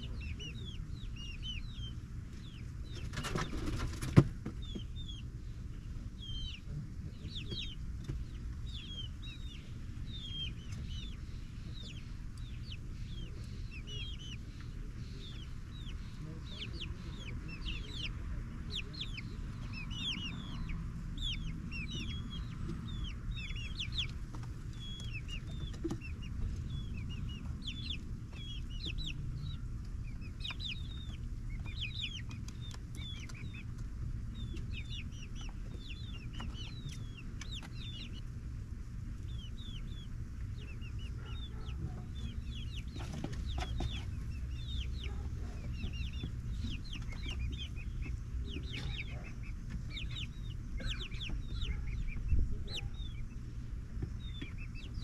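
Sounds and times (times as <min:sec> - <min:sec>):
steady low rumble: 0:00.0 - 0:55.0
young chickens peeping and cheeping: 0:00.0 - 0:55.0.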